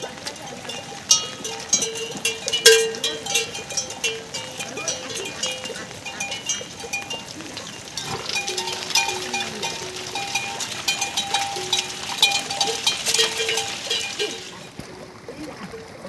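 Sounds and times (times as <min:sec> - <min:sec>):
livestock bells clanking: 0:00.0 - 0:14.7
animals knocking as they move: 0:00.0 - 0:14.8.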